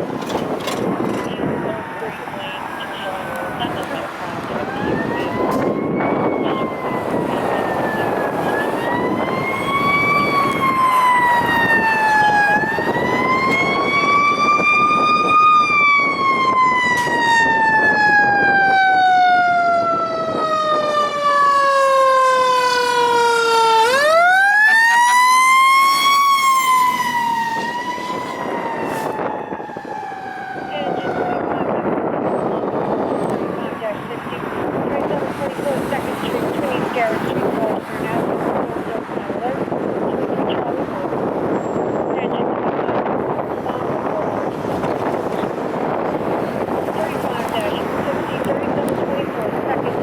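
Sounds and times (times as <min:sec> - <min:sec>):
fire engine siren wailing: 0:00.0 - 0:50.0
truck engine and road rumble: 0:00.0 - 0:50.0.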